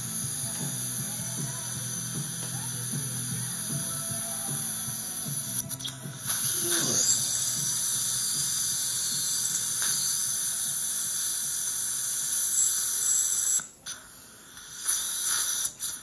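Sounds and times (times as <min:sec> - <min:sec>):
dental suction hissing: 0:00.0 - 0:16.0.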